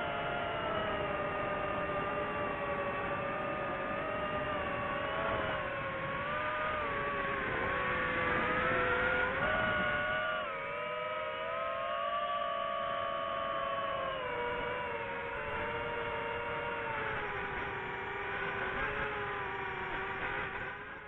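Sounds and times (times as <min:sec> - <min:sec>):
drone propeller motors whining: 0:00.0 - 0:21.0.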